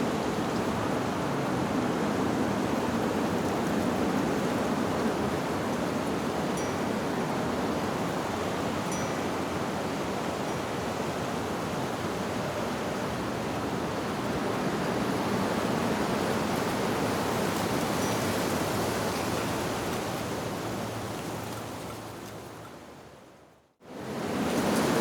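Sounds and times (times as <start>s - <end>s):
wind blowing through leaves: 0.0s - 25.0s.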